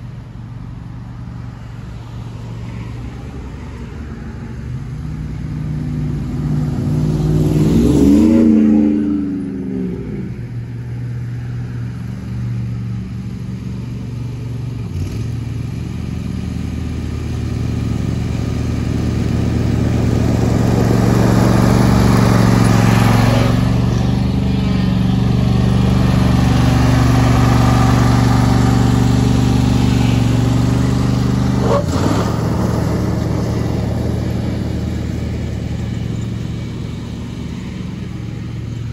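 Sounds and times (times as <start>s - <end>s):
car passing: 0.0s - 38.9s
riding mower engine cutting grass: 0.0s - 38.9s.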